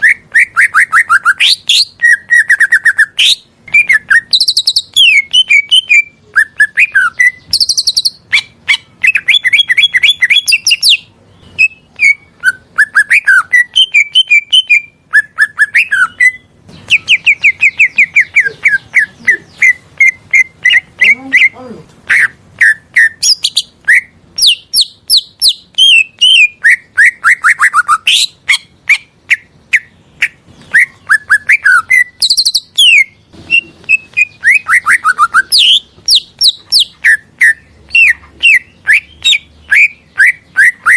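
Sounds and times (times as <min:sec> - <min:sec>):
bird singing chirps and trills: 0:00.0 - 0:40.9.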